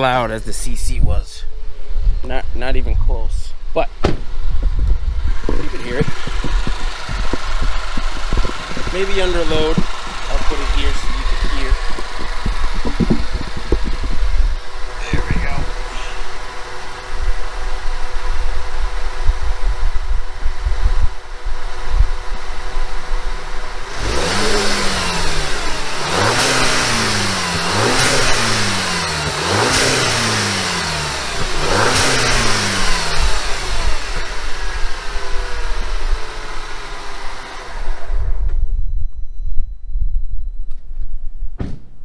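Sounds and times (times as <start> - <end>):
car engine idling and revving: 3.5 - 39.5.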